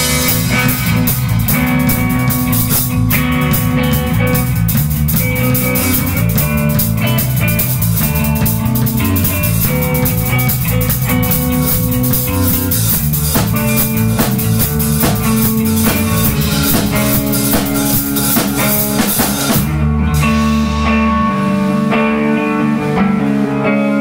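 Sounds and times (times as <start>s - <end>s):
drum kit and cymbals: 0.0s - 22.9s
bass guitar: 0.0s - 24.0s
electric guitar: 0.0s - 24.0s.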